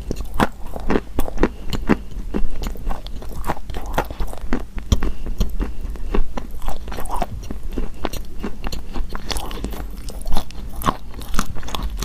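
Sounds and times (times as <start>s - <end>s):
chalk crunching and chewing: 0.0s - 12.0s.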